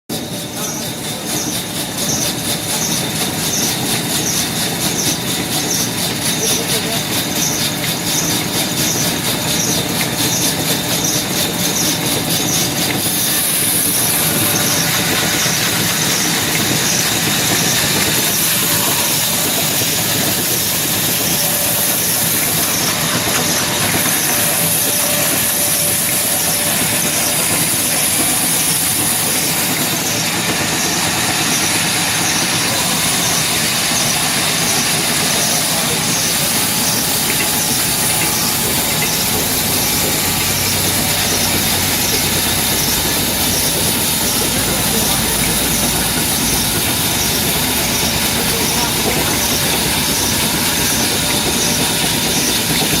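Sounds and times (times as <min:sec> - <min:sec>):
power saw cutting wood: 0:00.1 - 0:53.0.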